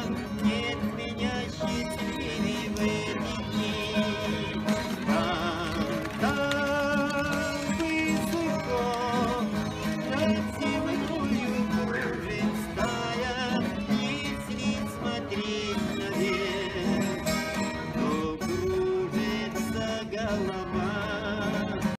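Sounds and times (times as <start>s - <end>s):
person singing: 0.0s - 21.9s
plucked strings music: 0.0s - 21.9s.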